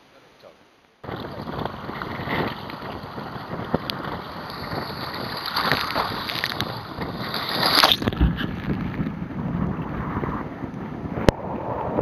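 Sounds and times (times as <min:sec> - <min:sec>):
water splashing against hull: 0:01.0 - 0:12.0
wave rushing over bow: 0:01.0 - 0:12.0
wind buffeting microphone: 0:01.0 - 0:12.0.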